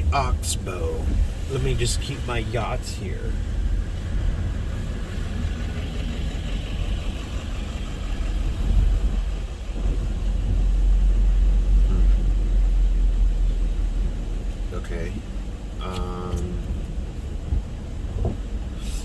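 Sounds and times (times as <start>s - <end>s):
car cabin rumble: 0.0s - 19.0s
strong wind buffeting car: 0.0s - 19.0s.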